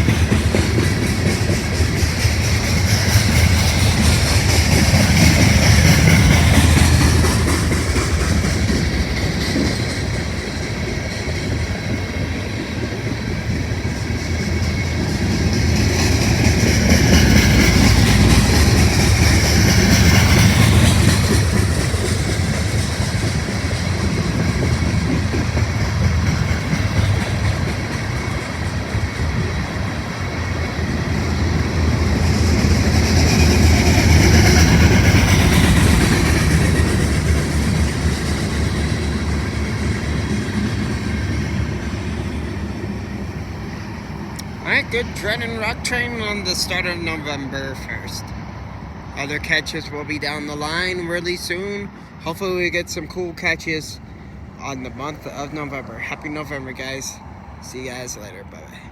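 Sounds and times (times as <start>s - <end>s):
freight cars rumbling on rails: 0.0s - 58.9s.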